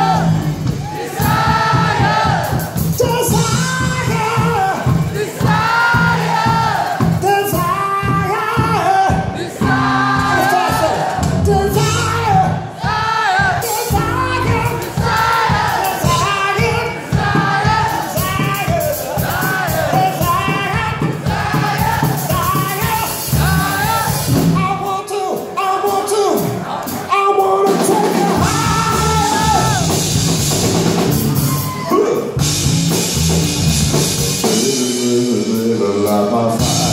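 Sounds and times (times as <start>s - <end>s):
bass guitar: 0.0s - 13.1s, 13.9s - 24.9s, 28.0s - 36.9s
person singing lead vocal: 0.0s - 30.0s, 34.4s - 36.9s
drum kit: 0.0s - 36.9s.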